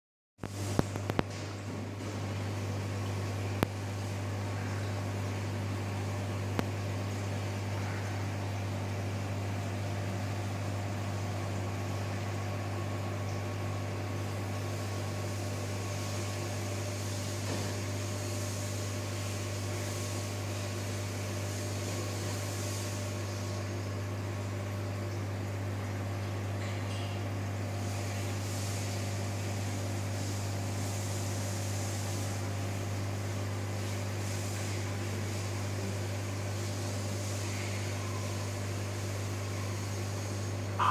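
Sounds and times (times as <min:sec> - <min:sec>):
aquarium air pump humming: 0:00.4 - 0:40.9.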